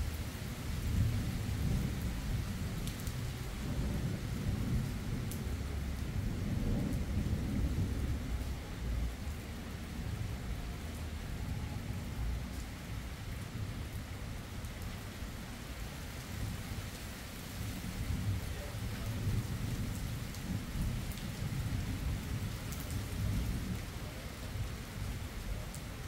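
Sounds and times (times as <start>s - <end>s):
steady rain falling: 0.0s - 26.0s
low roll of thunder: 0.6s - 15.0s, 17.6s - 26.0s.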